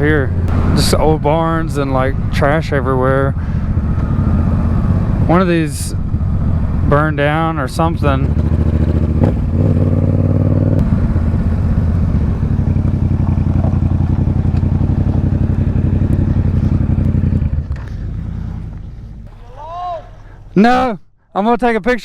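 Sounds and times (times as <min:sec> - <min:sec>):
motorcycle engine running: 0:00.0 - 0:19.5.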